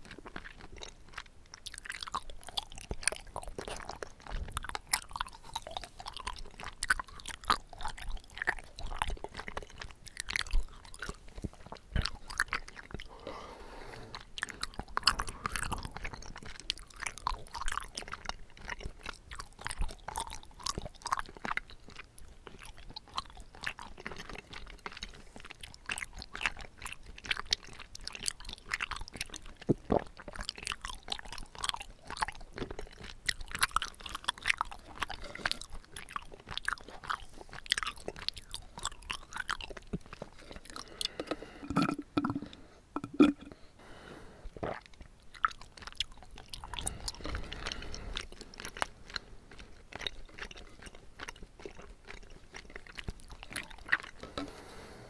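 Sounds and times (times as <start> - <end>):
chewing tapioca pearls: 0.0 - 55.0.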